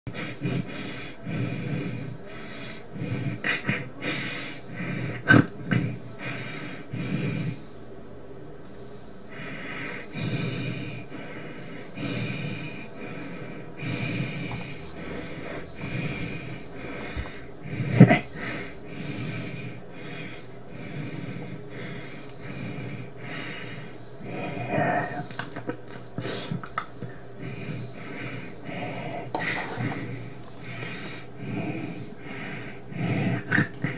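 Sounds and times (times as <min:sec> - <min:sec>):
heavy breathing: 0:00.1 - 0:07.8, 0:08.8 - 0:33.9.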